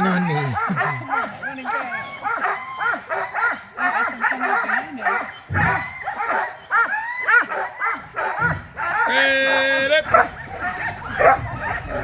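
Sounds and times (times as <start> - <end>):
sled dogs barking and yipping: 0.0 - 12.0.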